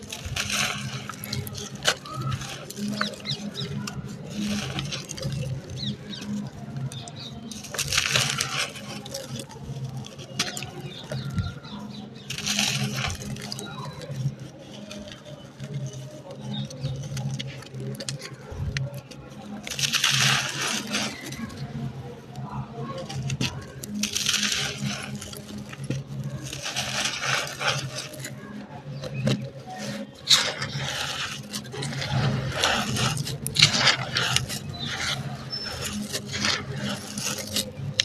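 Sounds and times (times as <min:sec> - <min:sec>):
dry crust crumbling: 0:00.0 - 0:38.0.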